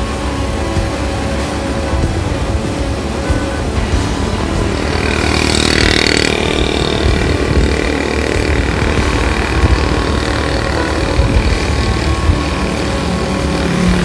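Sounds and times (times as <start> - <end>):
small motorcycle engine running: 0.0 - 14.0
wind and road noise: 0.0 - 14.0.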